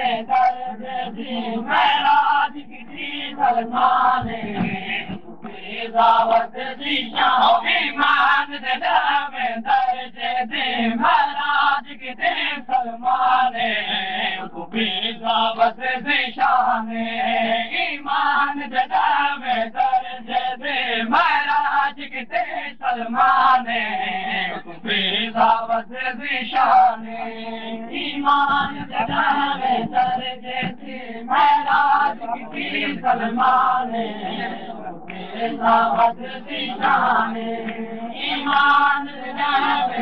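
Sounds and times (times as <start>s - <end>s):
men chanting a mourning lament: 0.0s - 40.0s.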